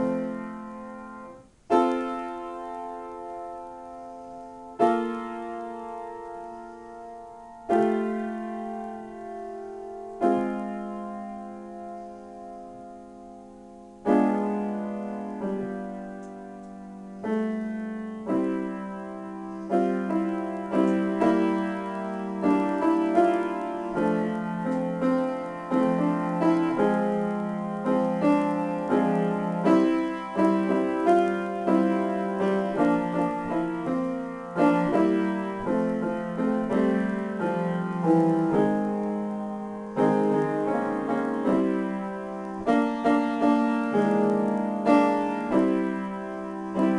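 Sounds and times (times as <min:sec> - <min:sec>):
grand piano playing: 0:00.0 - 0:46.9.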